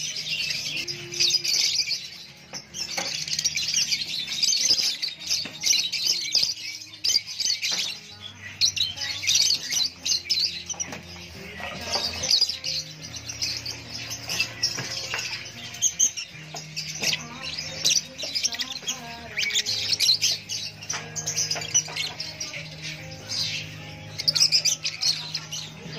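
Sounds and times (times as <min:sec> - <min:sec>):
lovebirds chirping and squawking: 0:00.0 - 0:25.9.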